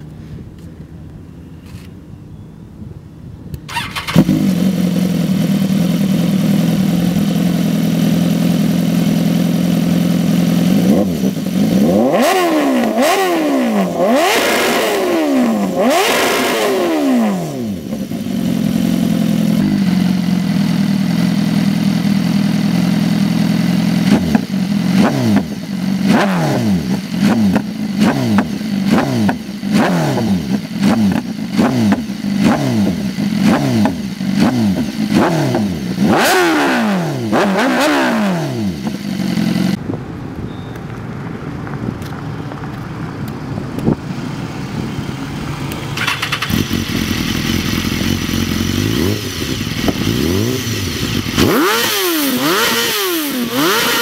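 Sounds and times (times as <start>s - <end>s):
motorcycle engine idling and revving: 3.5s - 54.0s.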